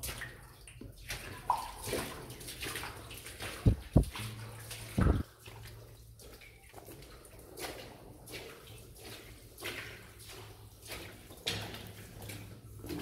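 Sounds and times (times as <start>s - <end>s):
footsteps splashing through water: 0.0s - 13.0s.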